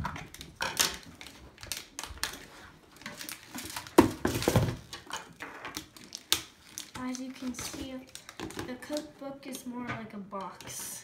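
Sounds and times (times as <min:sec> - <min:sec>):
packaging rustling and crackling: 0:00.0 - 0:09.1.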